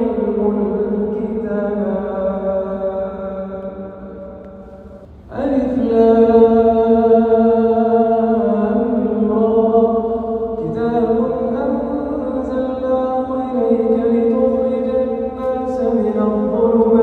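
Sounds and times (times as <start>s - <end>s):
man chanting melodically: 0.0s - 4.5s, 5.3s - 17.0s.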